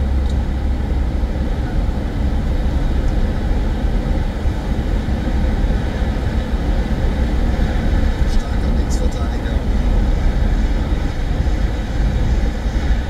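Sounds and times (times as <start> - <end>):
car engine: 0.0 - 13.0
road and tyre noise: 0.0 - 13.0.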